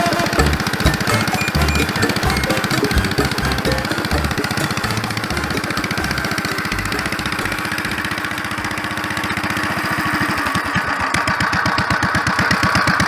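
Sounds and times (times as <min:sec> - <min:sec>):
tractor engine idling with pops: 0:00.2 - 0:13.0.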